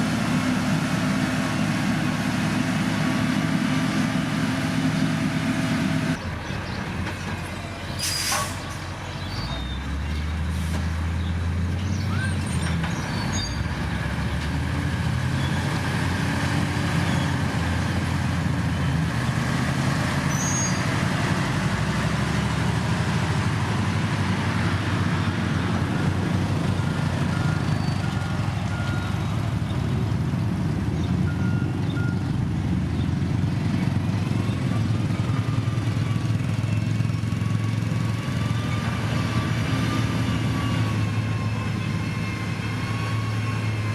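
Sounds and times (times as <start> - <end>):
diesel construction machinery running: 0.0 - 43.9.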